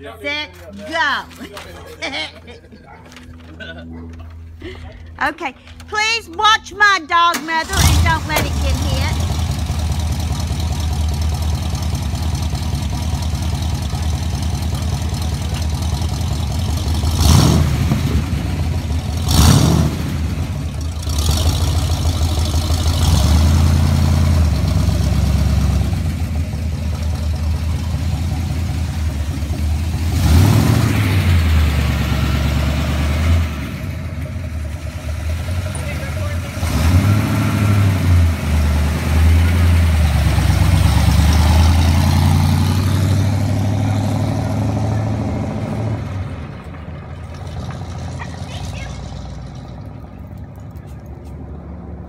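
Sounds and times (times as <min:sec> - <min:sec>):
truck engine running and revving: 0:07.6 - 0:52.0.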